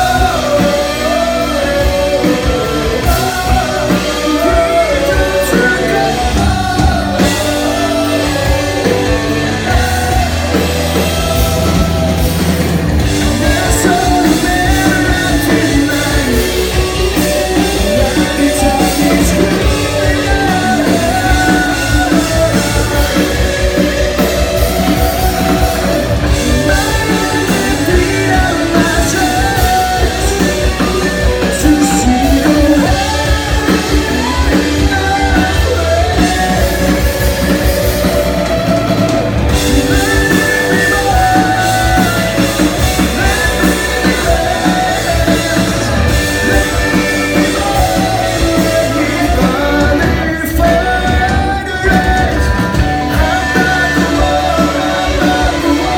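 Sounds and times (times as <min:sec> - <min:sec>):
drum kit: 0:00.0 - 0:55.9
electric guitars: 0:00.0 - 0:55.9
person singing: 0:00.0 - 0:55.9.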